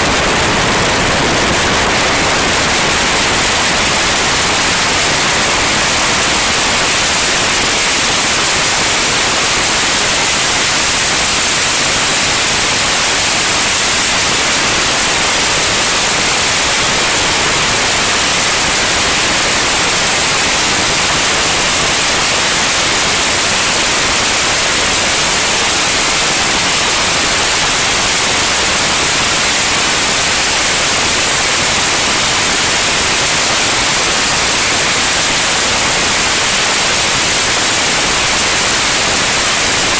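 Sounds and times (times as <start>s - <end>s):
loud steady static hiss: 0.0s - 39.9s.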